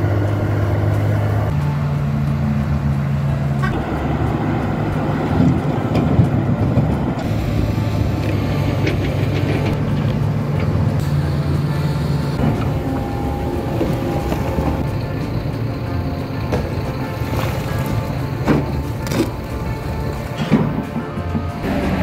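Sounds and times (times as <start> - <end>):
heavy diesel engines droning: 0.0 - 22.0.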